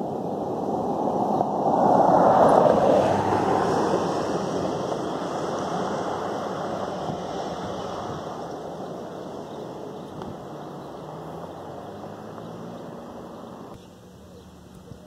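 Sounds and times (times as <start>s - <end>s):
pickup truck driving past: 0.0s - 13.8s.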